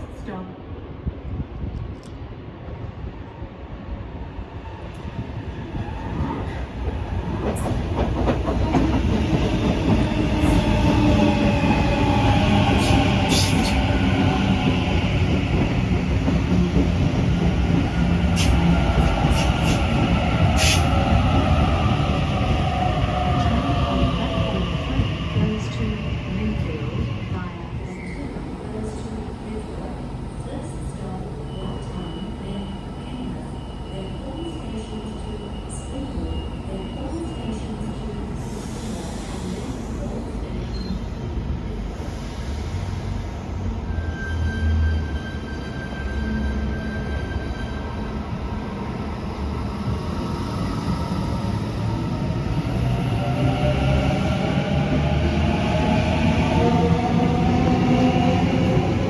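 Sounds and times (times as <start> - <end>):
rail noise: 0.0 - 59.0
train rumbling: 0.0 - 59.0.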